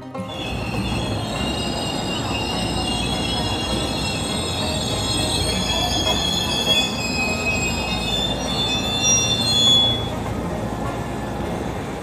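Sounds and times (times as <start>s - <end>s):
train running rumble: 0.0s - 12.0s
train wheels squealing: 0.2s - 10.3s.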